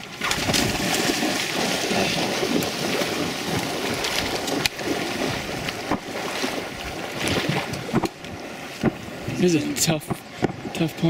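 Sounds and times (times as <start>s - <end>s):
water sloshing: 0.0s - 11.0s
wind noise on microphone: 0.0s - 11.0s.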